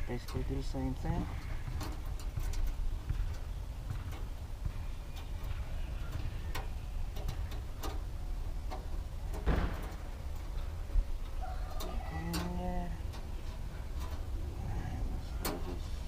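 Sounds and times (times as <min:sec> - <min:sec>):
springs clicking and ticking: 0:00.0 - 0:15.8
low steady rumble: 0:00.0 - 0:16.0
scraping rustle: 0:00.0 - 0:16.0.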